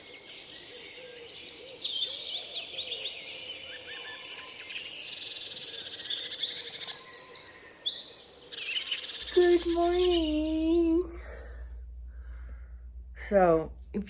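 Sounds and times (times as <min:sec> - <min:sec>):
birds singing and chirping: 0:00.0 - 0:12.9.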